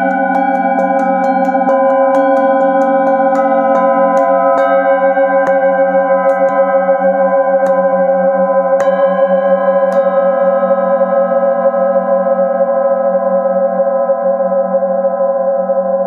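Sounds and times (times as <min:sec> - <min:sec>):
singing bowls ringing: 0:00.0 - 0:16.0.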